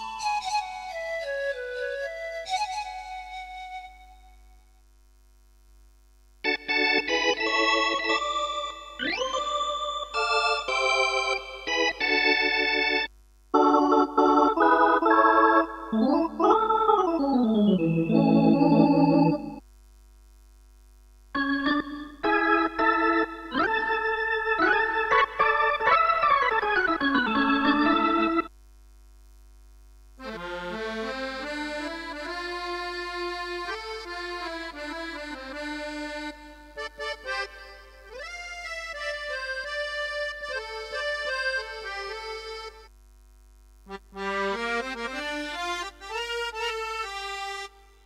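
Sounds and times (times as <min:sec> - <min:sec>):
keyboard organ chords: 0:00.0 - 0:04.1, 0:06.4 - 0:19.6, 0:21.4 - 0:28.5, 0:30.2 - 0:42.9, 0:43.9 - 0:48.0.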